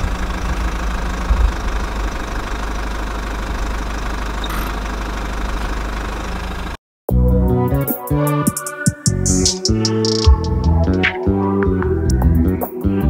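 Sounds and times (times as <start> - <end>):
vehicle engine rumbling: 0.0 - 6.8, 9.1 - 13.0.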